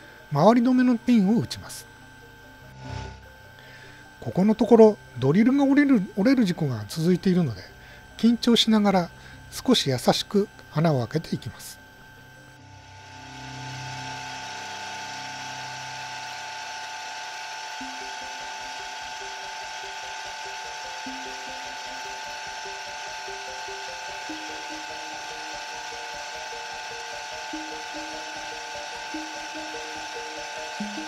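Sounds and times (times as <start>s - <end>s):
drill press whining: 0.0s - 31.0s.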